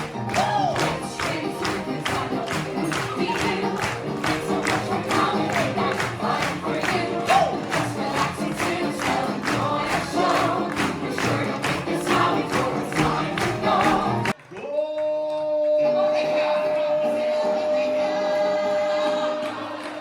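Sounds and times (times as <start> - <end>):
group of people singing: 0.0 - 14.4, 15.8 - 20.0.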